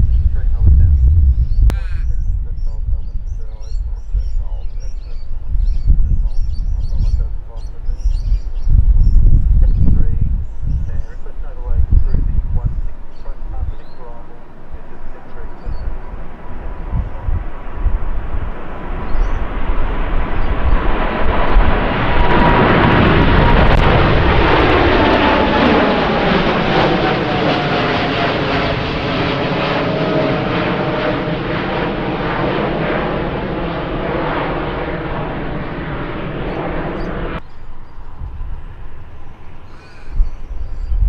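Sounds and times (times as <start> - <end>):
jet airliner passing: 0.0 - 41.0.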